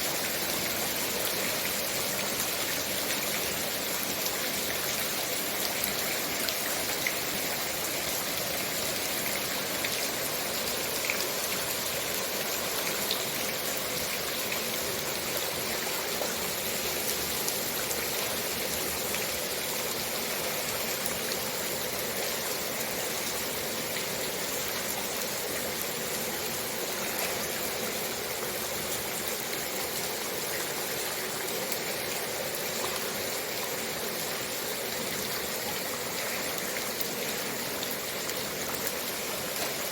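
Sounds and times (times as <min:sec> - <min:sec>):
heavy rain falling: 0:00.0 - 0:32.8.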